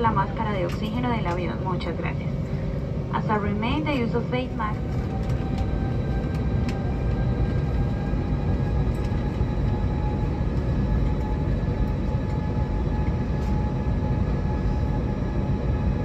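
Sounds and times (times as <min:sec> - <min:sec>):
faint jet engine whine: 0:00.0 - 0:16.0
jet engines rumbling: 0:00.0 - 0:16.0.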